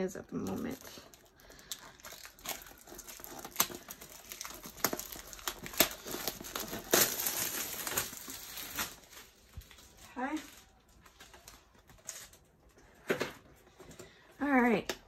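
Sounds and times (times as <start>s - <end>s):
packaging crinkling: 0.3s - 12.5s.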